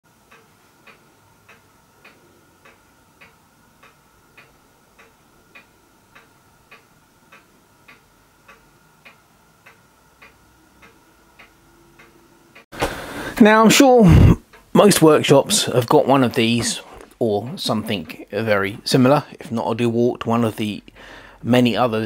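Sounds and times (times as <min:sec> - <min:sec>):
clock ticking: 0:00.1 - 0:12.7, 0:13.4 - 0:22.0
faint steady hum: 0:00.1 - 0:22.0.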